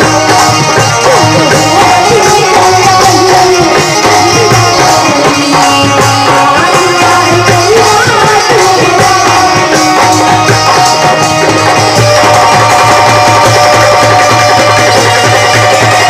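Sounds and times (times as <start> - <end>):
loud backing music: 0.0 - 16.0
steady drum beat: 0.0 - 16.0
woman singing into microphone: 0.0 - 16.0.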